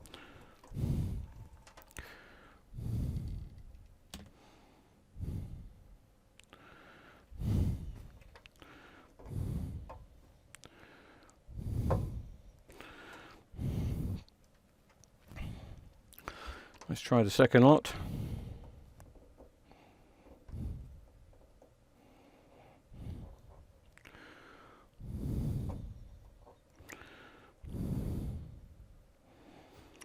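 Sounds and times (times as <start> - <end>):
man breathing close to microphone: 0.0 - 5.9, 6.5 - 14.4, 15.3 - 16.9, 17.9 - 30.0.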